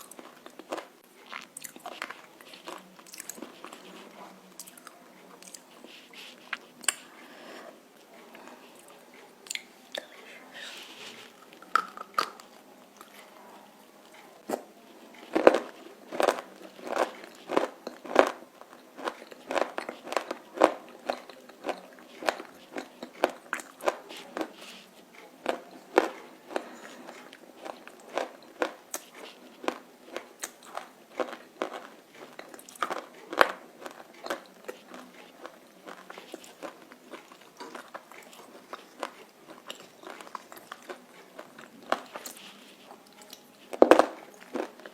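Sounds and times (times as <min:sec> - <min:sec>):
crunching and chewing: 0:00.0 - 0:44.9.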